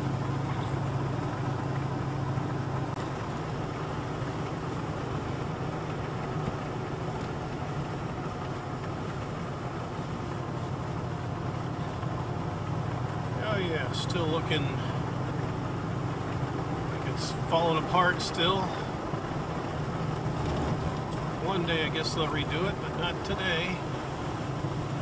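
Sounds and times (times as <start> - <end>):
truck engine drone: 0.0 - 25.0
tyre and road noise: 0.0 - 25.0.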